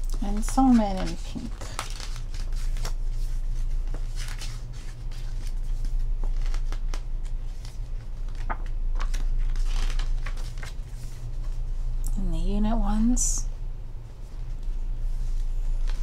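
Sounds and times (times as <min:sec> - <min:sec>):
pages turning and rustling: 0:00.0 - 0:11.9, 0:14.2 - 0:16.0
steady low hum: 0:00.0 - 0:16.0.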